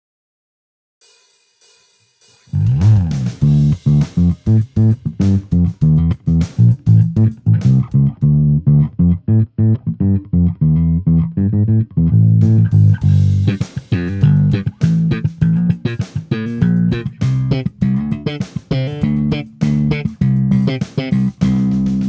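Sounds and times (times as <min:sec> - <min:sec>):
electric bass plucked notes: 0:02.6 - 0:22.0.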